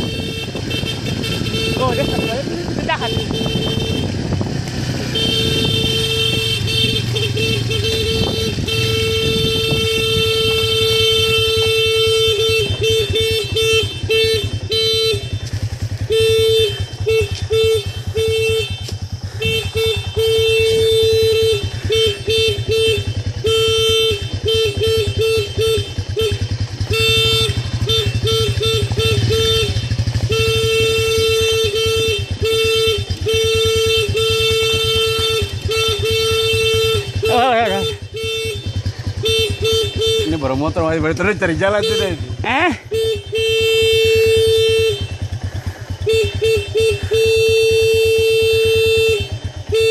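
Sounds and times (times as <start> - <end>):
motorcycle engine running: 0.0 - 49.9
motorcycle horn honking: 0.0 - 49.9.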